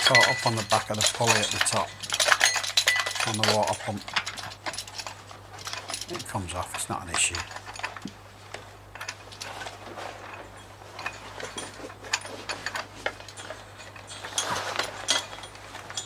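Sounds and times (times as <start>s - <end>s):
chain clinking and rattling: 0.0s - 16.0s
steady low hum: 0.0s - 16.0s.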